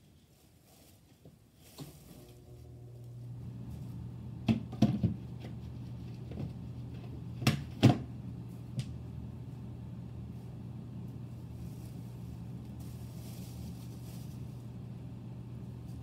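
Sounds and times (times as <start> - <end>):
vacuum cleaner motor humming: 1.8 - 16.0.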